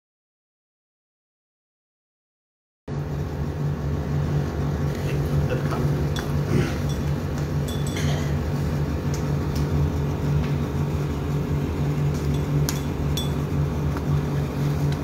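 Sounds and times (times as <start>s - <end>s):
low machine hum: 2.9s - 15.0s.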